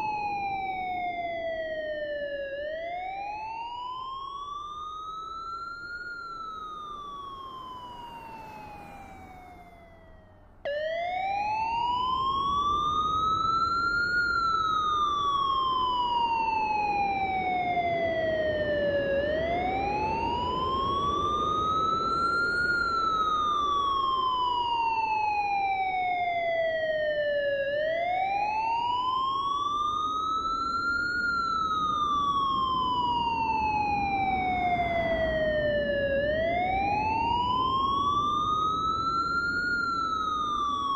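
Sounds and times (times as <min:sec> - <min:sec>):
emergency siren wailing: 0:00.0 - 0:40.9.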